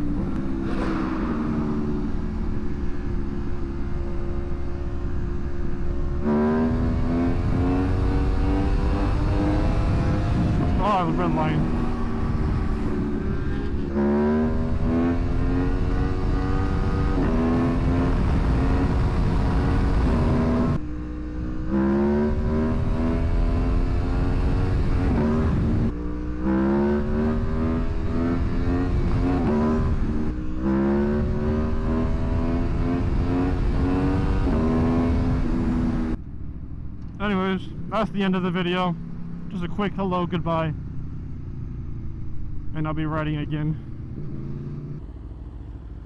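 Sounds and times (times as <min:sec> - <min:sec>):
wind rumble: 0:00.0 - 0:38.2
motorcycle engine accelerating: 0:00.0 - 0:46.0.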